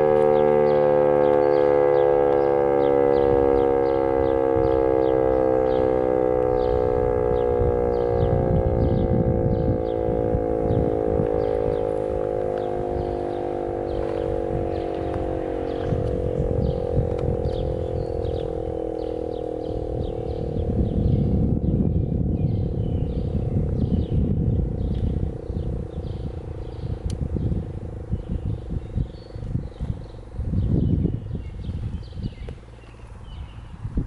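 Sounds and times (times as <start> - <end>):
mechanical siren winding down: 0.0 - 33.4
low rumble: 0.0 - 34.0.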